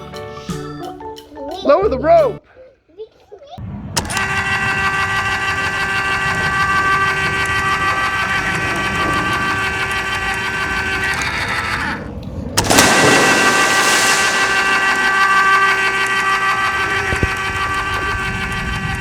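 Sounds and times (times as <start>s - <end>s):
small electric winch motor whining: 3.6s - 19.0s.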